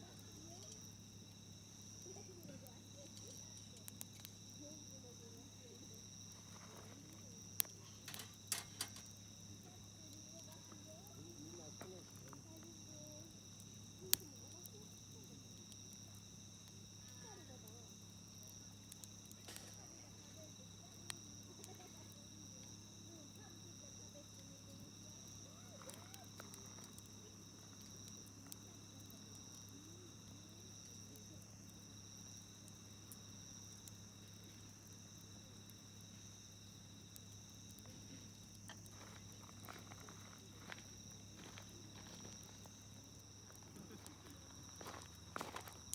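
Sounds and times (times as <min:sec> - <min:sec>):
campfire popping and crackling: 0:00.0 - 0:45.9
crickets trilling: 0:00.0 - 0:45.9.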